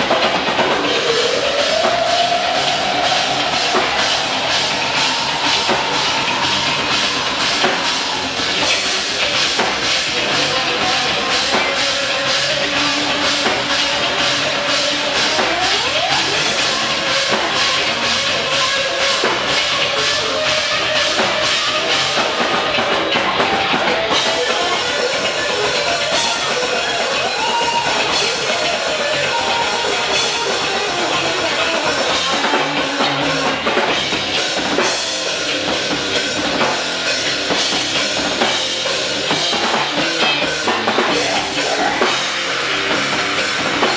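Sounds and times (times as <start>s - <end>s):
distorted electric guitar: 0.0s - 43.9s
fast driving drum kit: 0.0s - 43.9s
loud live rock band: 0.0s - 43.9s.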